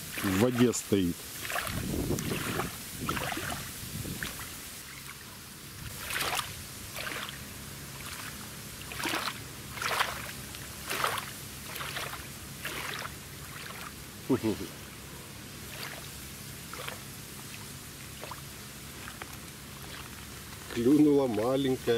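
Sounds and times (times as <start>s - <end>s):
small waves lapping on shore: 0.0s - 21.9s.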